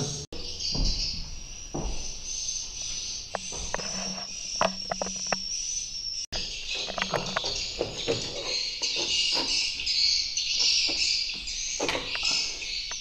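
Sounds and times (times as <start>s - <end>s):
birds chirping trill: 0.0s - 13.0s.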